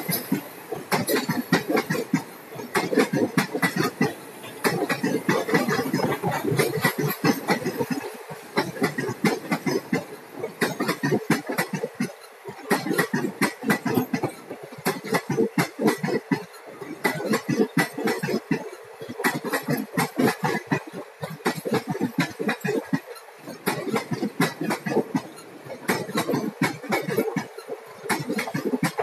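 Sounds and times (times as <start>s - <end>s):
steady train rumble: 0.0s - 29.0s
train wheels clattering on track: 0.0s - 29.0s.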